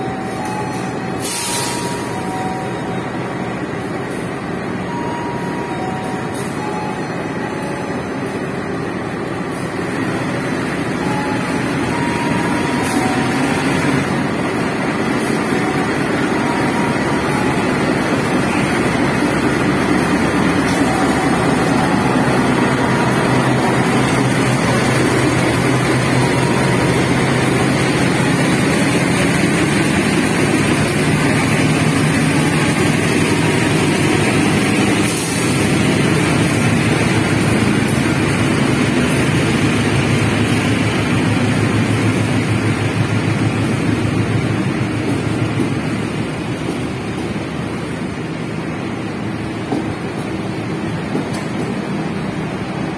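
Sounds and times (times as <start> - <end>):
coaches rolling on rails: 0.0 - 52.9
diesel locomotive engines: 0.0 - 52.9.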